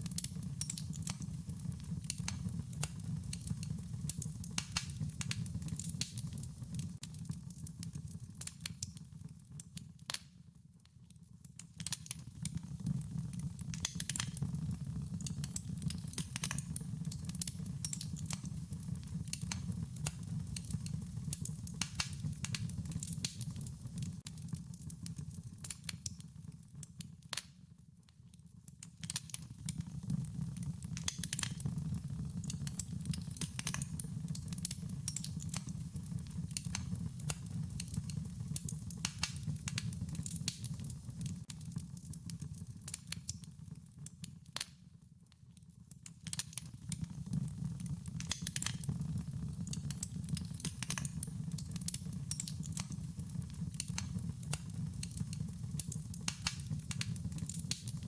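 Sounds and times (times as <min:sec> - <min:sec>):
wood fire crackling: 0:00.0 - 0:27.6, 0:28.4 - 0:44.8, 0:45.8 - 0:58.0.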